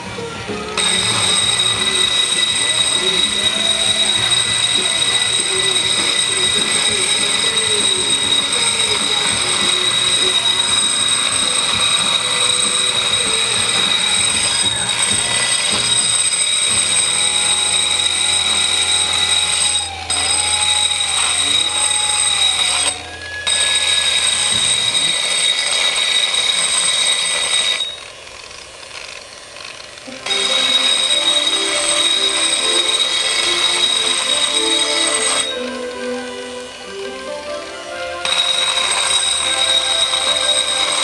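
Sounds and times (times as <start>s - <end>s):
angle grinder grinding concrete: 0.0s - 37.3s, 37.9s - 41.0s.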